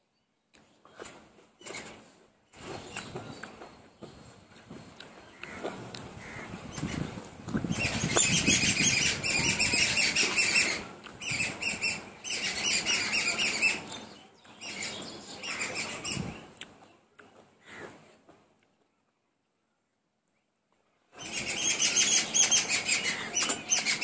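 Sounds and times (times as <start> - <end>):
birds chirping: 0.0 - 18.0, 20.3 - 24.0.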